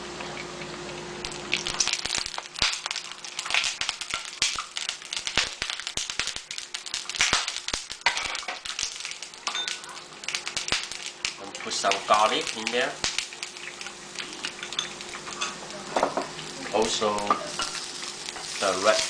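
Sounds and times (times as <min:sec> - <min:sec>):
oil crackling and spitting in pan: 0:00.7 - 0:19.0.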